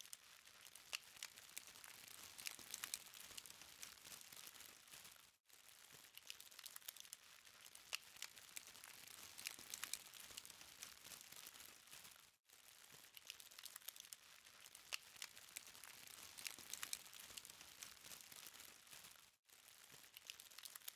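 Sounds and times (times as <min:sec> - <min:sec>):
charcoal crackling: 0:00.0 - 0:20.9.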